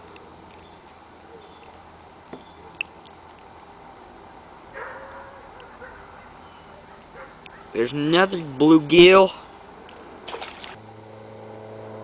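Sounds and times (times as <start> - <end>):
faint outdoor background: 0.0 - 11.6.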